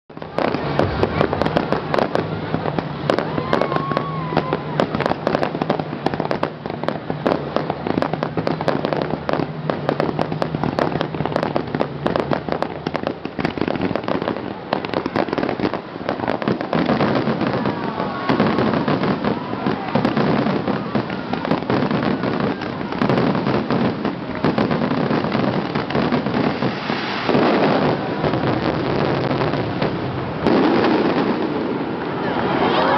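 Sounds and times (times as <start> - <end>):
fireworks bangs and crackling: 0.1 - 32.9.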